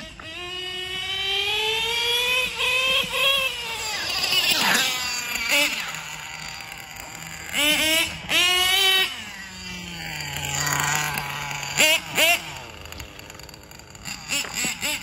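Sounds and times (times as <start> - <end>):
rc car nitro engine revving: 0.0 - 15.0.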